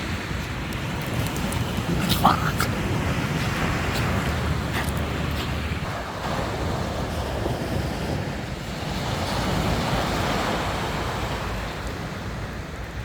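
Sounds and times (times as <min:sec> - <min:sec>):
sea waves on sand: 0:00.0 - 0:13.0
wind rumbling on microphone: 0:00.0 - 0:13.0.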